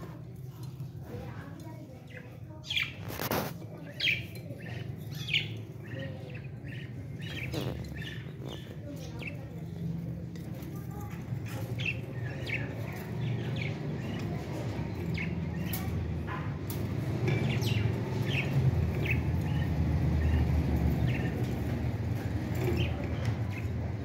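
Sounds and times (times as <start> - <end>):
parrots chirping: 0.0 - 24.0.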